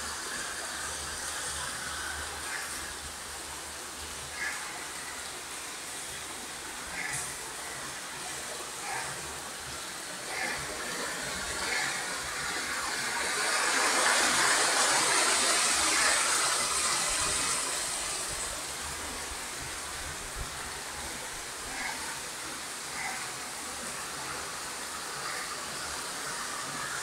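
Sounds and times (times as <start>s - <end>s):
rain falling on leaves: 0.0s - 27.0s.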